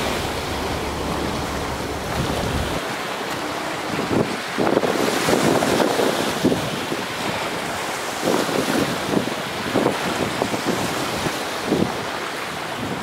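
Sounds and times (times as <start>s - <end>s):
sea surf: 0.0s - 13.0s
wind buffeting the microphone: 0.0s - 13.0s.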